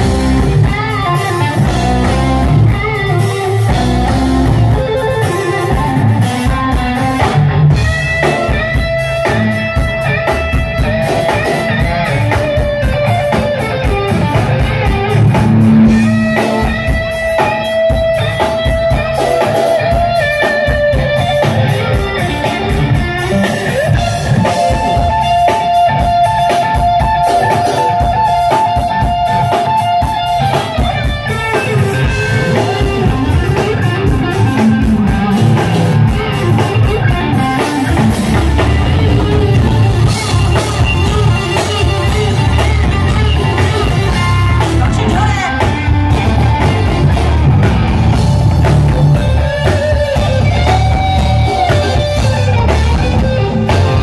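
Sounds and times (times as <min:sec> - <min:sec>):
drums: 0:00.0 - 0:54.0
electric guitar solo: 0:00.0 - 0:54.0
live band playing: 0:00.0 - 0:54.0.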